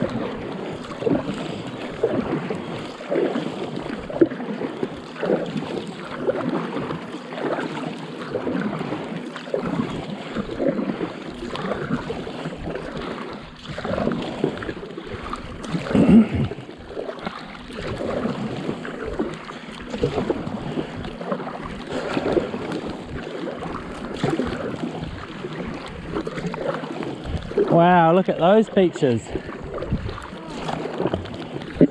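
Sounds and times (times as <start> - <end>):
paddle strokes in water: 0.0 - 31.9
water lapping around board: 0.0 - 31.9.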